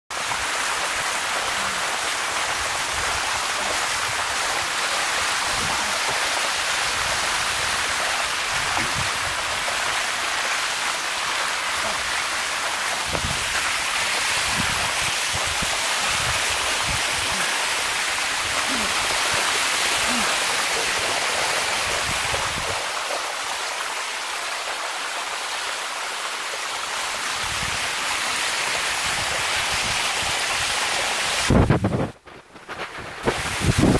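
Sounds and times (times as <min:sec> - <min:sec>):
waterfall rushing over rock: 0:00.1 - 0:32.0, 0:33.0 - 0:33.9.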